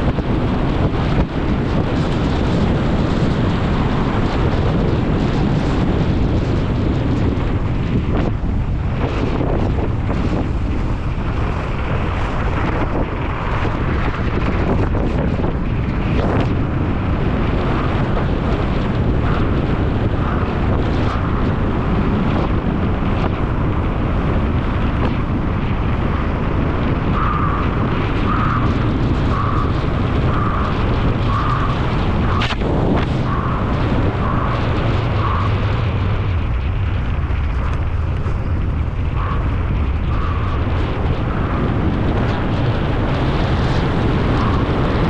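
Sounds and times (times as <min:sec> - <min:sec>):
heavy wind buffeting microphone: 0:00.0 - 0:45.0.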